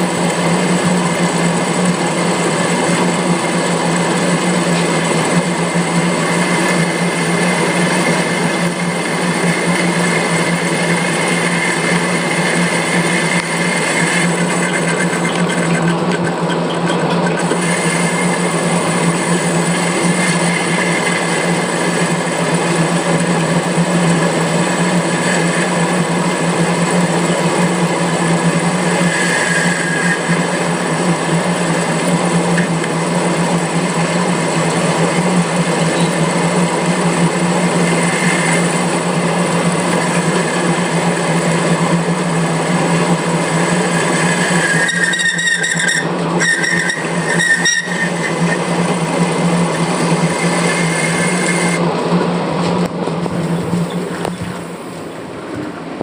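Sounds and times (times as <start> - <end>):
lathe tool cutting metal: 0.0 - 56.0
metal lathe humming: 0.0 - 56.0.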